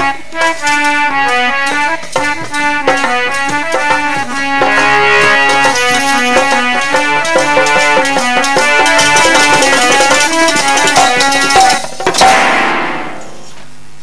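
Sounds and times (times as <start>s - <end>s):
dholak drum rhythm: 0.0s - 12.6s
harmonium chords: 0.0s - 13.5s.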